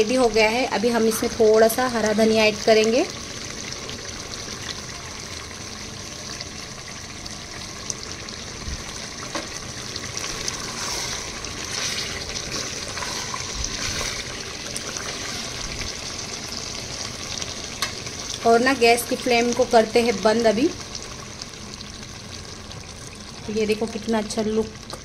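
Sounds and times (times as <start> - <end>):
gravy sizzling in a pan: 0.0 - 25.0.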